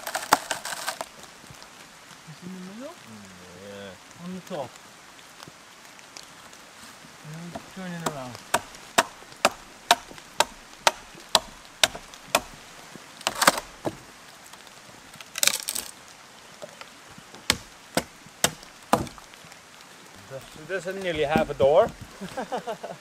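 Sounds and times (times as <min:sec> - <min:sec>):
wood crackling: 0:00.0 - 0:23.0.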